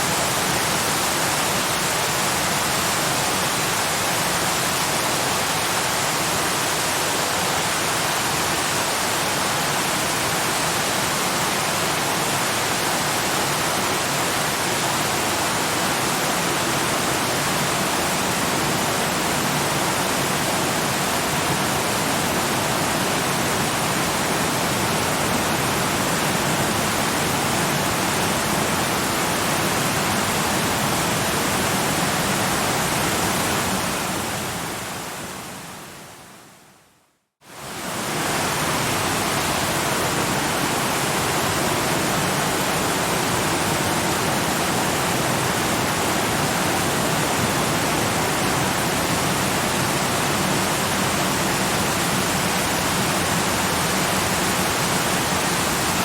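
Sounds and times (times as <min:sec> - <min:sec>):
waterfall rushing: 0:00.0 - 0:36.0, 0:37.5 - 0:56.0.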